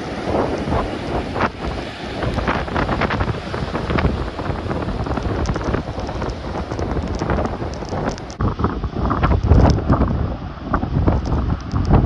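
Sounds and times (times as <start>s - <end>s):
surf breaking against seawall: 0.0s - 12.0s
wind on microphone: 0.0s - 12.0s.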